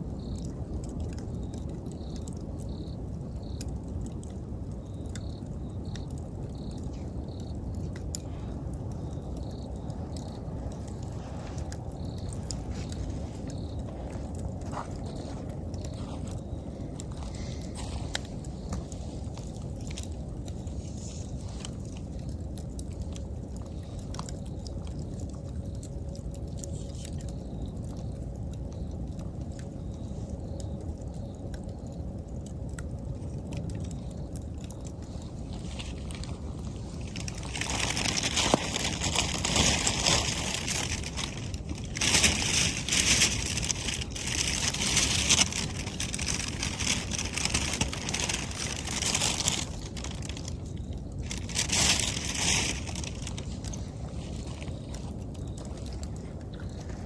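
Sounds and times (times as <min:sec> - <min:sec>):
fire crackling and popping: 0:00.0 - 0:57.0
wood bonfire burning: 0:00.0 - 0:57.0.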